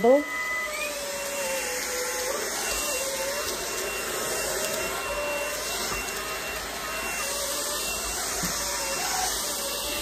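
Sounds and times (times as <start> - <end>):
vacuum cleaner motor running: 0.0 - 10.0.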